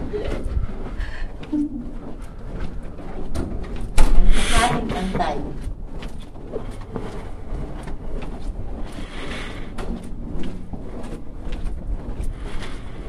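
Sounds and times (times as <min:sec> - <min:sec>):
footsteps on carpet: 0:00.0 - 0:13.0
low rumble: 0:00.0 - 0:13.0.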